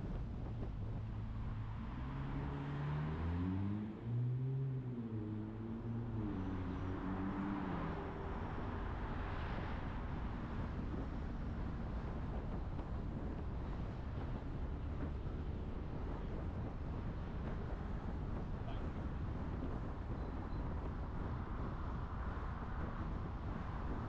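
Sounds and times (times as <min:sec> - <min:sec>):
car engine accelerating: 0:00.0 - 0:24.0
road and wind noise: 0:00.0 - 0:24.0.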